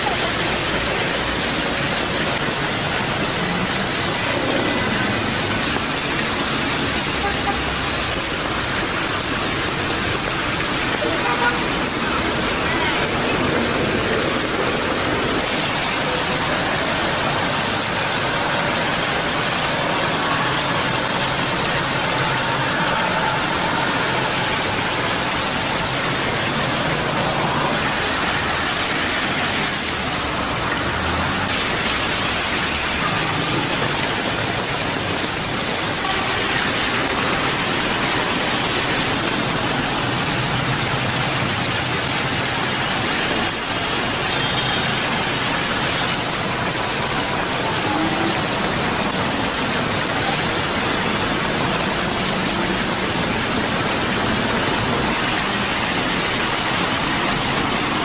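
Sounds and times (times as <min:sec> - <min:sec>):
heavy rain hissing: 0:00.0 - 0:58.0
tyres swishing through water: 0:00.0 - 0:58.0.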